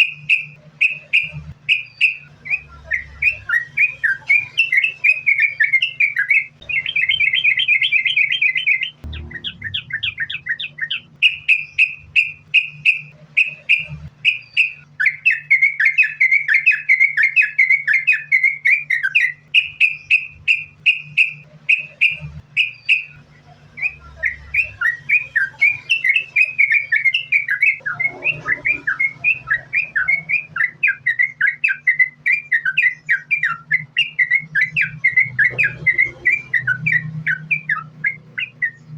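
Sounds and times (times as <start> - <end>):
bird singing with chirps and trills: 0.0 - 38.9
faint low hum: 0.0 - 38.9.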